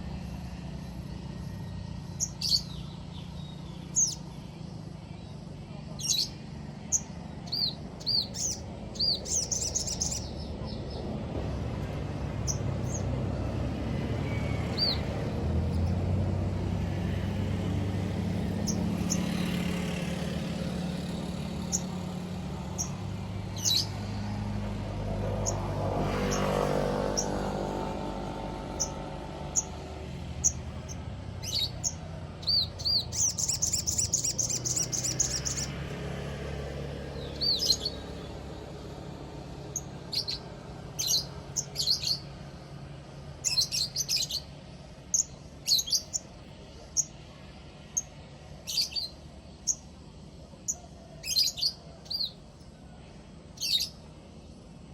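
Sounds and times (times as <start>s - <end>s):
low engine hum: 0.0s - 54.9s
bird chirping: 0.2s - 24.2s, 25.3s - 35.9s, 37.0s - 38.6s, 39.6s - 42.7s, 43.3s - 52.7s, 53.6s - 54.5s.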